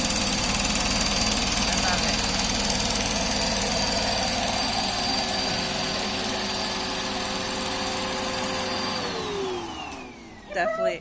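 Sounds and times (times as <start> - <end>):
vacuum cleaner high whine: 0.0 - 11.0.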